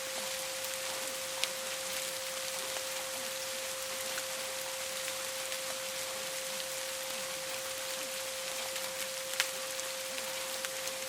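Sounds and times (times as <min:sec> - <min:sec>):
rain hiss: 0:00.0 - 0:11.0.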